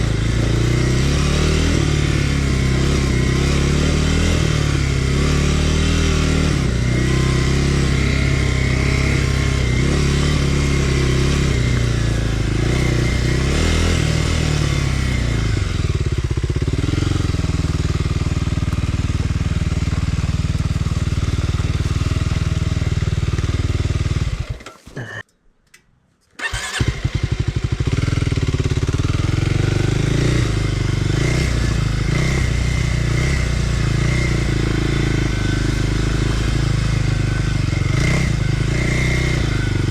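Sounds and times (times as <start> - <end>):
dirt bike engine revving: 0.0 - 25.2, 26.4 - 39.9.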